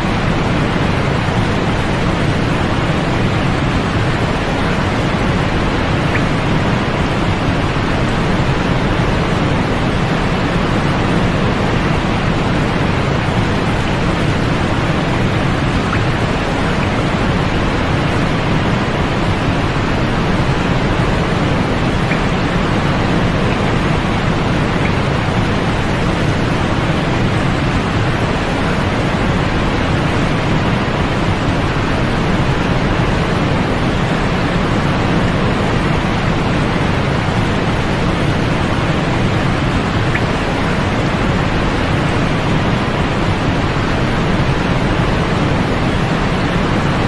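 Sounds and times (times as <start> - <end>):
white noise hiss: 0.0 - 47.0.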